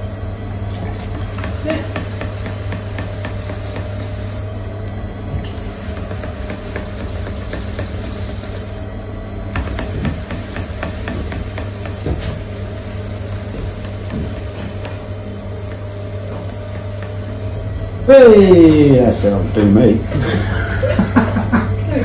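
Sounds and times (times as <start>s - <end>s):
potter's wheel humming: 0.0s - 22.0s.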